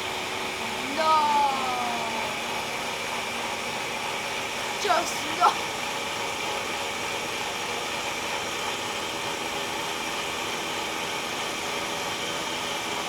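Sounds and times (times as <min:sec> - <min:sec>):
electric blender running: 0:00.0 - 0:13.0.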